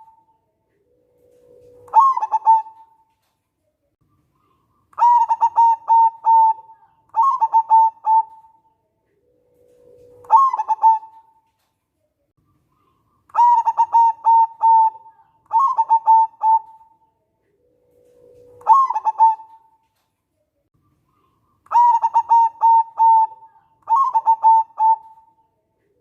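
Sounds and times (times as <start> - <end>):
dove cooing: 0.0 - 3.1, 4.4 - 11.5, 12.8 - 19.8, 21.2 - 26.0.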